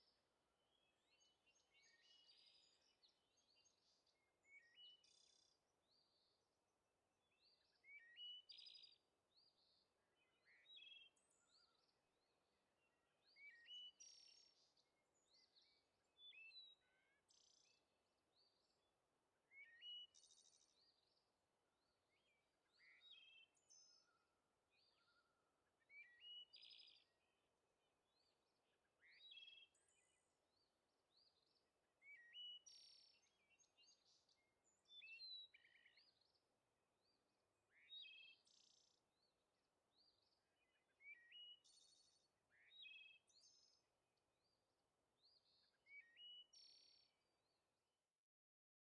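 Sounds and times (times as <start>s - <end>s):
faint songbird whistles and trills: 0.0s - 6.4s, 7.3s - 12.0s, 12.8s - 18.8s, 19.5s - 21.2s, 22.1s - 27.4s, 28.1s - 36.4s, 37.0s - 39.3s, 39.9s - 44.6s, 45.2s - 47.5s.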